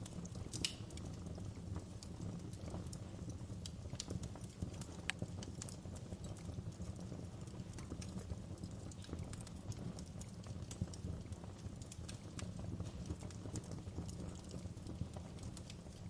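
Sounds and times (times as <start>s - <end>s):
low rumble of burning: 0.0s - 16.0s
wood fire popping and snapping: 0.0s - 16.0s.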